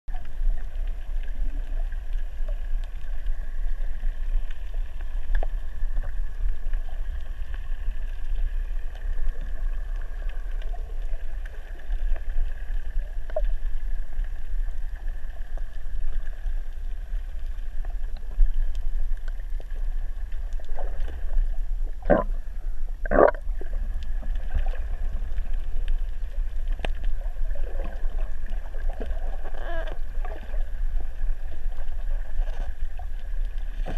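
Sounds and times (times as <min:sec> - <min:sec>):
faint steady hum: 0:00.1 - 0:33.9
underwater low rumble: 0:00.1 - 0:33.9.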